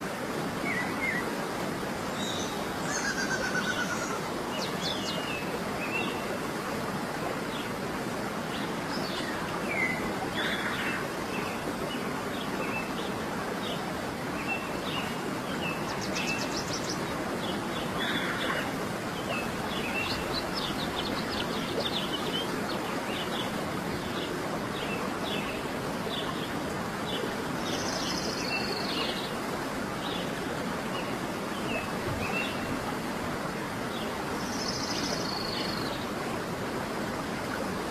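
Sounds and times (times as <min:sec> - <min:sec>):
running water: 0:00.0 - 0:37.9.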